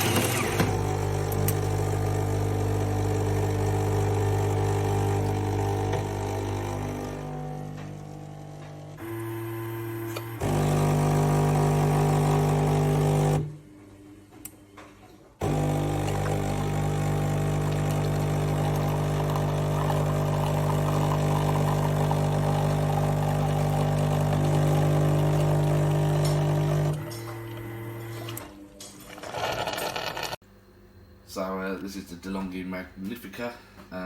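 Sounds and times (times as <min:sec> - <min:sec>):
coffee machine motor hum: 0:00.0 - 0:14.4, 0:15.4 - 0:30.4.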